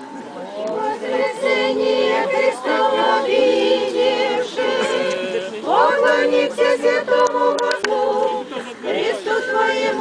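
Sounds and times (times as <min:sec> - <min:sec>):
group chanting in harmony: 0:00.3 - 0:10.0.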